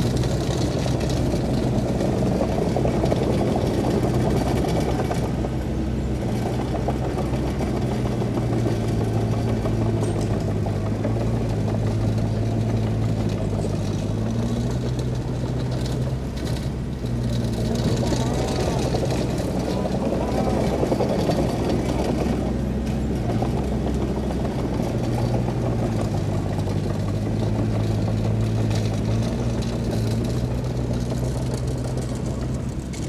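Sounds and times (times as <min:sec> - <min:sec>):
heavy machinery diesel engine running: 0:00.0 - 0:33.0.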